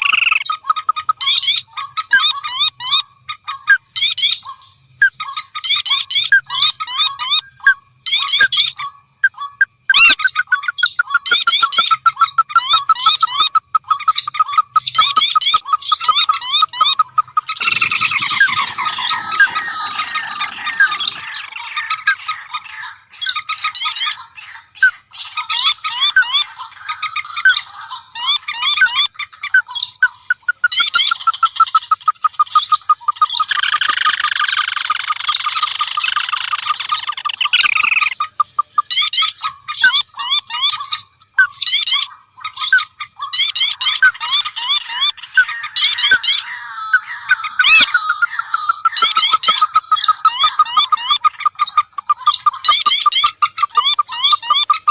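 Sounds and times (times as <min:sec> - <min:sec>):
marsh bird calls: 0:00.0 - 0:54.9.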